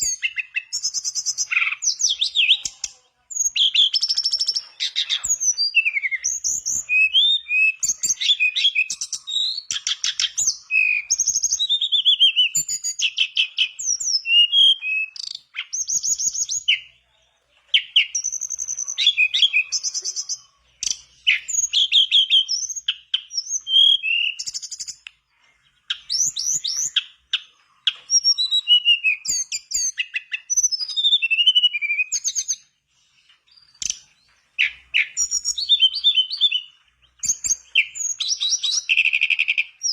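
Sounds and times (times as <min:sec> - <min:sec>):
bird singing whistles and trills: 0:00.0 - 0:17.0, 0:17.7 - 0:39.9.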